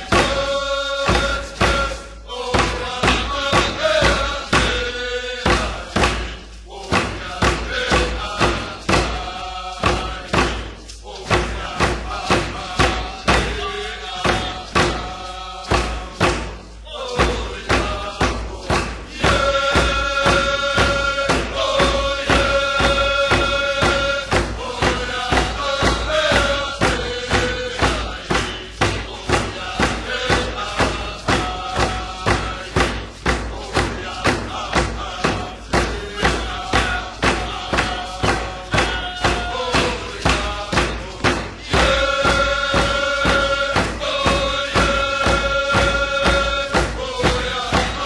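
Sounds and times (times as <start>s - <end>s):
drum beaten steadily: 0.0s - 48.0s
group of voices chanting: 0.0s - 48.0s.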